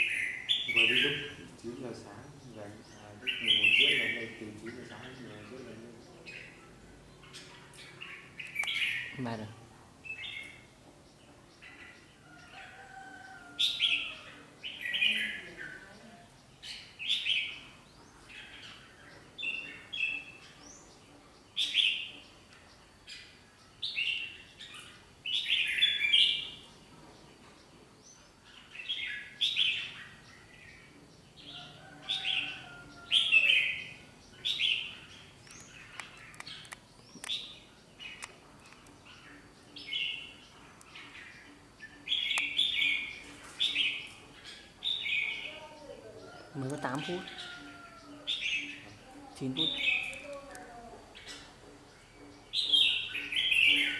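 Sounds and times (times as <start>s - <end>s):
birds chirping loudly: 0.0s - 53.9s.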